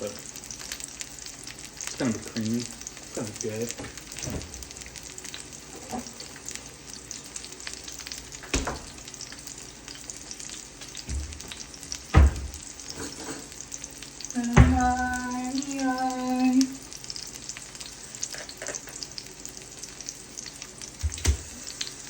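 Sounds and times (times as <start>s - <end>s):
food sizzling in frying pan: 0.0s - 22.0s.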